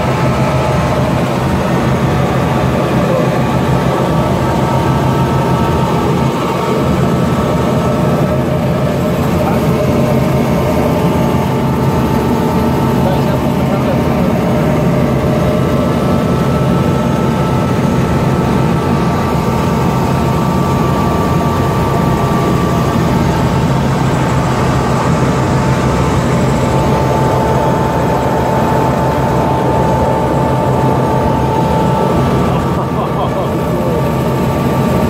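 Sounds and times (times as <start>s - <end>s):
helicopter turbine and rotor: 0.0s - 35.0s.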